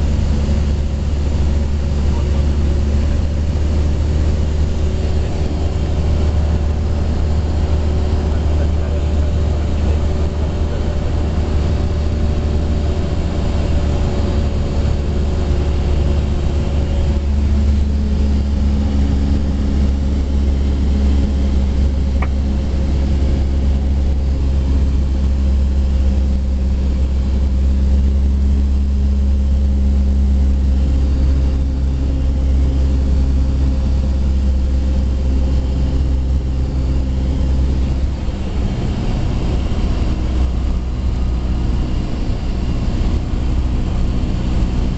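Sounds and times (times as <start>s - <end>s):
aircraft engine and propeller drone: 0.0s - 44.9s.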